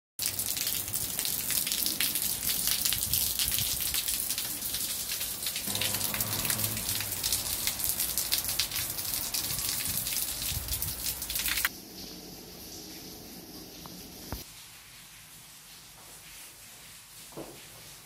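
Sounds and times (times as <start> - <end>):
rain on brick paving: 0.2 - 18.0.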